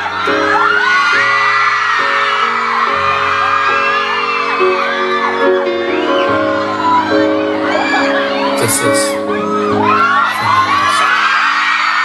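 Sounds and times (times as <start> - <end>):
crowd screaming and cheering: 0.0 - 12.0.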